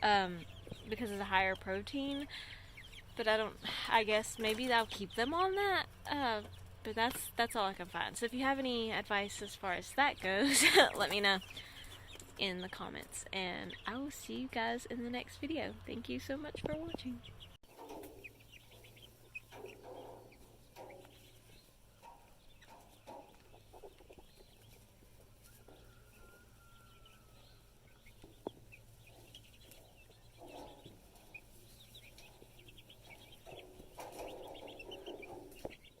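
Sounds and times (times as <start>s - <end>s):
chickens clucking: 0.0s - 36.0s
chicks peeping: 0.0s - 36.0s.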